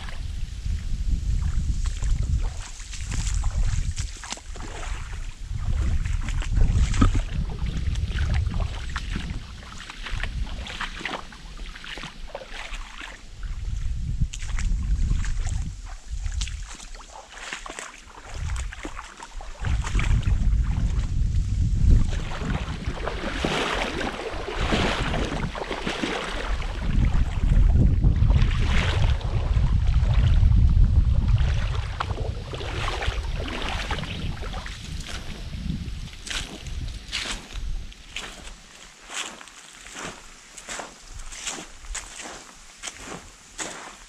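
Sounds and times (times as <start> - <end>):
footsteps crunching on rough ground: 0.0 - 29.3, 31.6 - 44.0
water splashing in creek: 0.0 - 44.0
wind rumble on microphone: 0.0 - 44.0.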